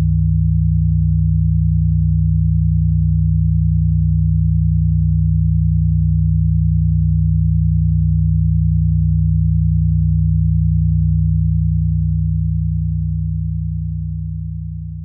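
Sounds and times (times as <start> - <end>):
low electronic sine drone: 0.0 - 15.0.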